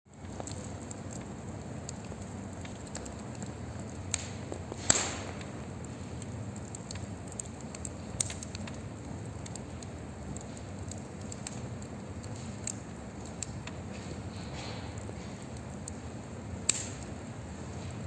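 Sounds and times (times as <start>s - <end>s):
sharp pops from fire: 0.1s - 18.0s
wood fire crackling: 0.1s - 18.0s.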